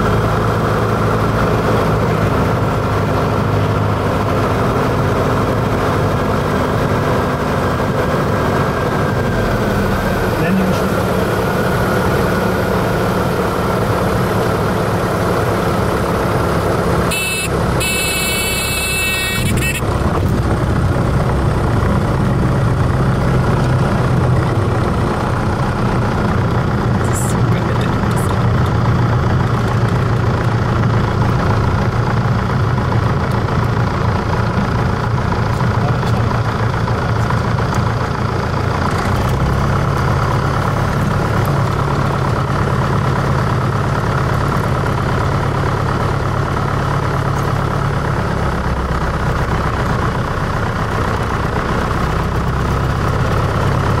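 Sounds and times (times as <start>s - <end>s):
propeller plane engine drone: 0.0s - 54.0s.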